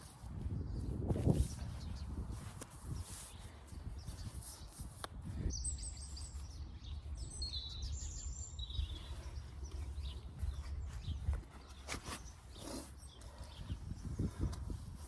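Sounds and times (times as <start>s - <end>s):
songbird chirping: 1.5s - 14.4s.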